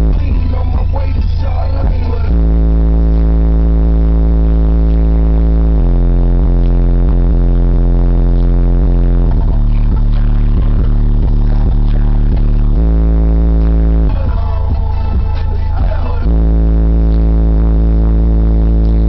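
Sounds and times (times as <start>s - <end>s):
bass-heavy music: 0.0s - 19.0s.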